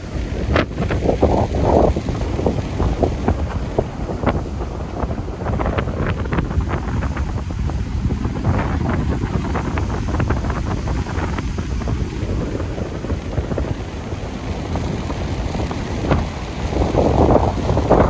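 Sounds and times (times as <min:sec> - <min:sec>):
surf breaking on shore: 0:00.0 - 0:18.0
wind buffeting microphone: 0:00.0 - 0:18.0.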